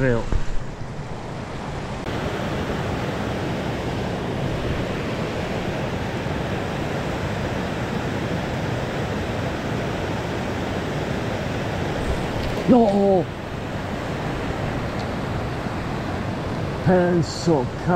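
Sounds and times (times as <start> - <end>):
river water rushing over weir: 0.7 - 17.9.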